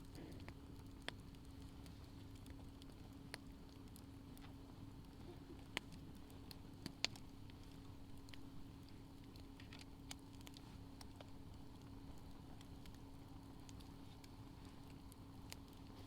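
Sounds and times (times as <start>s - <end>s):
faint steady hum: 0.0s - 16.0s
fire popping: 0.0s - 16.0s
wood fire crackling: 0.0s - 16.0s.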